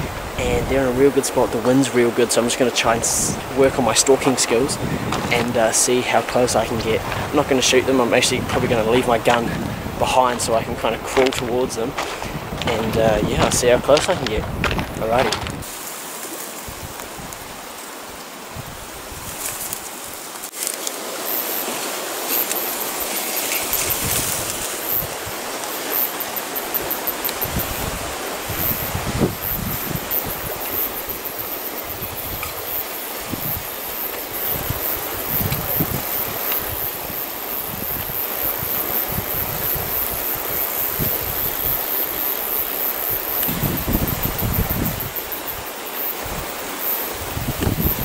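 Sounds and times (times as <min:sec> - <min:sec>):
wind buffeting microphone: 0:00.0 - 0:01.7, 0:02.5 - 0:15.8, 0:23.0 - 0:25.6, 0:26.8 - 0:48.0
grass rustling against camera: 0:00.0 - 0:48.0.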